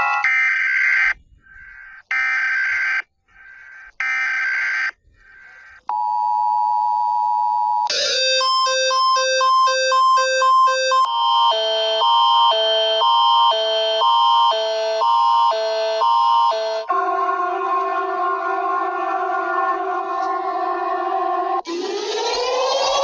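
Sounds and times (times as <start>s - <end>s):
electronic alarm tones: 0.0s - 20.3s, 21.1s - 23.0s.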